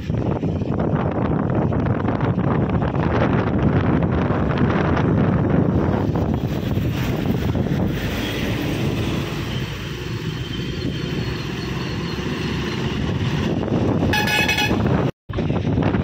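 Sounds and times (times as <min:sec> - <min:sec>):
road traffic passing: 0:00.0 - 0:16.0
wind on microphone: 0:00.0 - 0:16.0.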